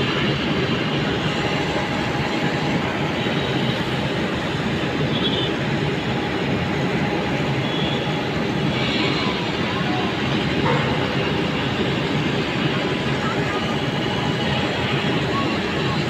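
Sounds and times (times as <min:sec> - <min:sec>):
track machinery droning: 0:00.0 - 0:16.0.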